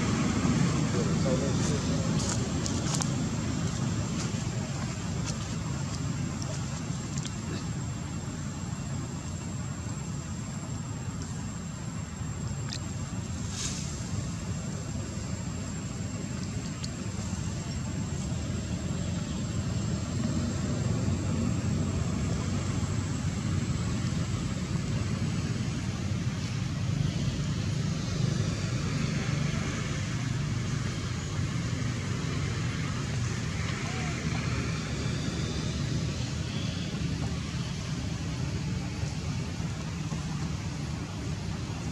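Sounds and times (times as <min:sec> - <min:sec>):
low rumble with hiss: 0:00.0 - 0:41.9.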